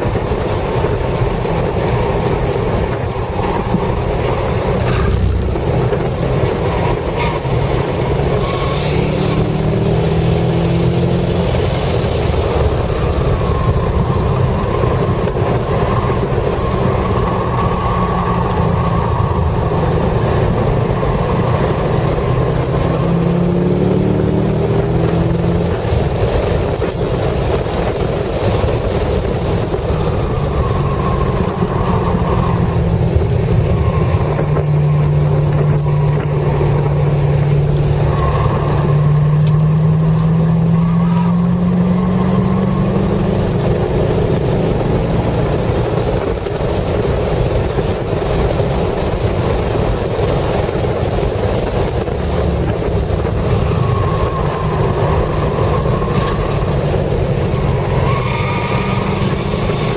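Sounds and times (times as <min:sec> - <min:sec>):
car engine accelerating: 0:00.0 - 0:59.9
wind and road noise: 0:00.0 - 0:59.9.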